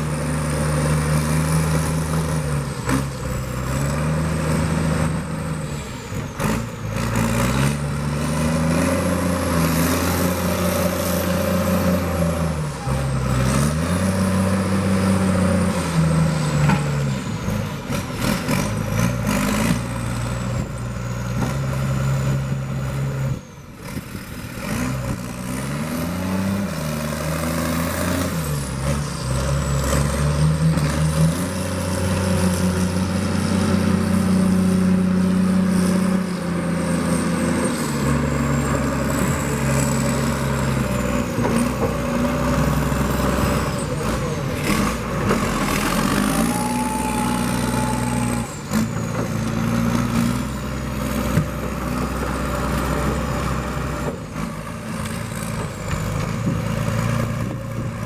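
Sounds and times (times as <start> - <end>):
heavy diesel engine revving: 0.0 - 58.0.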